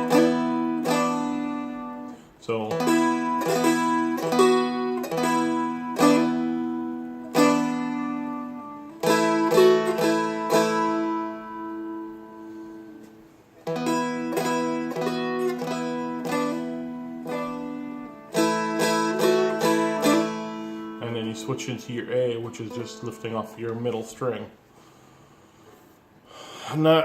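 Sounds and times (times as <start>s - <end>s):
plucked dulcimer melody and chords: 0.0s - 24.0s.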